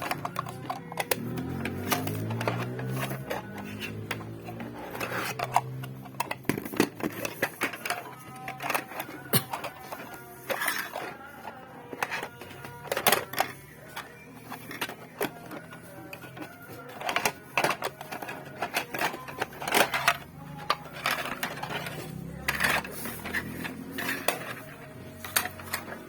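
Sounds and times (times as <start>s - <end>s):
faint background music: 0.0s - 26.0s
hard plastic pieces clattering: 0.0s - 26.0s.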